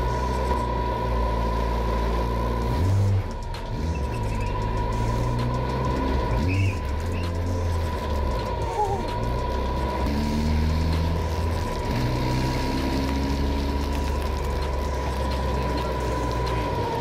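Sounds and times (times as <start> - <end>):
car engine running: 0.0 - 17.0
constant high whine: 0.0 - 17.0.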